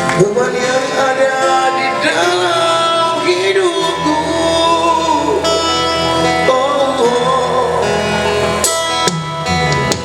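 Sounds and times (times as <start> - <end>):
live band pop ballad with guitar: 0.0 - 10.0.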